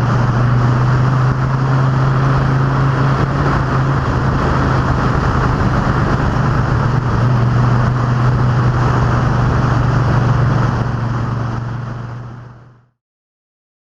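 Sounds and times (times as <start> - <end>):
race car engines droning: 0.0 - 12.9.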